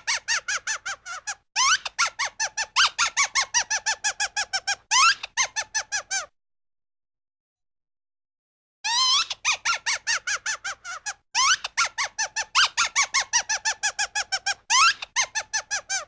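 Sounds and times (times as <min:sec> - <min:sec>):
squeaky cartoon laugh: 0:00.0 - 0:06.4, 0:08.8 - 0:16.0.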